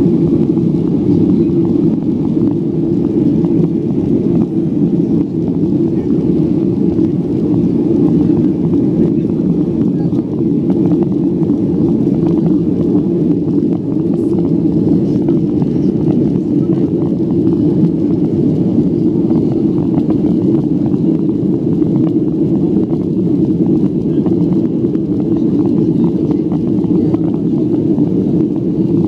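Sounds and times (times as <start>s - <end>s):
jet airliner cabin rush: 0.0s - 29.0s.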